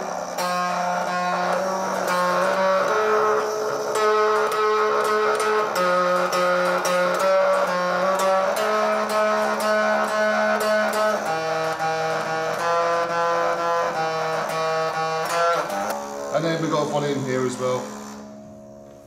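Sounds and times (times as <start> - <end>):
distorted bass guitar notes: 0.0 - 19.0.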